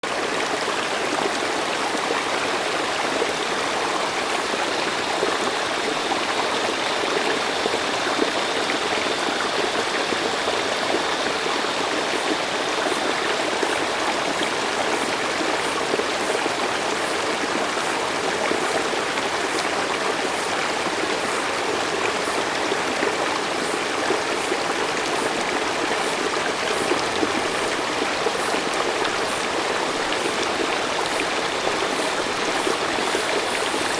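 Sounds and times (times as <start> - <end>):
stream water rushing: 0.0 - 33.9.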